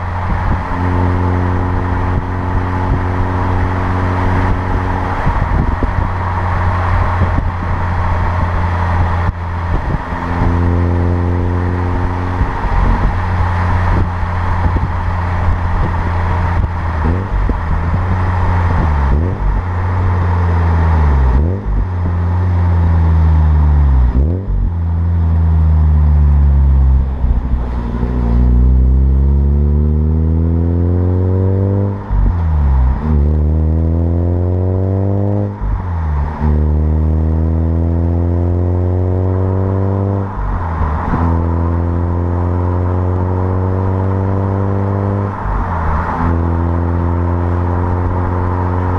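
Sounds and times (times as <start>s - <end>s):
rotary engine revving: 0.0s - 48.9s.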